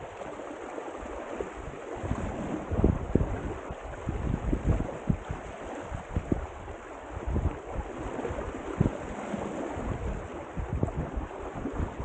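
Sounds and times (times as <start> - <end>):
water rushing past hulls: 0.0 - 12.0
wind buffeting microphone: 1.0 - 12.0.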